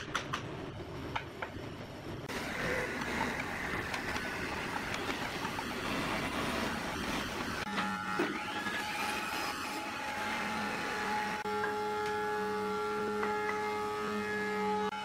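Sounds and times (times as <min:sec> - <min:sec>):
electric motor humming: 0:02.3 - 0:14.8.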